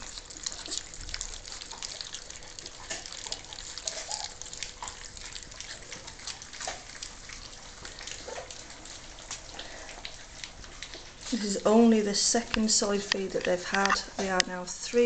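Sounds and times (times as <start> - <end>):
puppies lapping food: 0.0 - 15.0.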